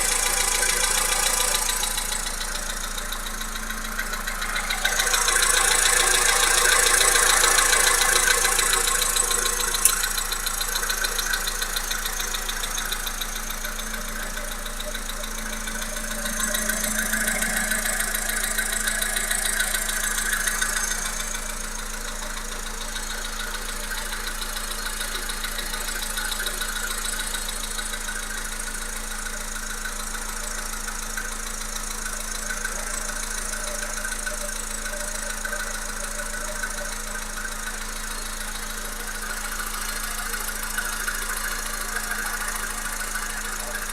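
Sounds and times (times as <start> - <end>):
car engine running: 0.0 - 43.9
rhythmic engine knock: 0.0 - 43.9.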